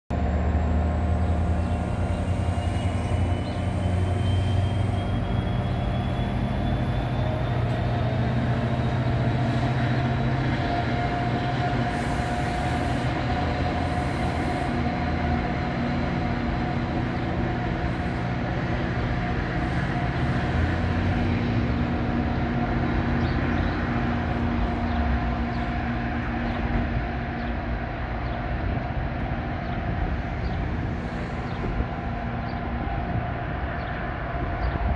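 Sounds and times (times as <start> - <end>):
train wheels rumbling on rails: 0.1 - 34.9.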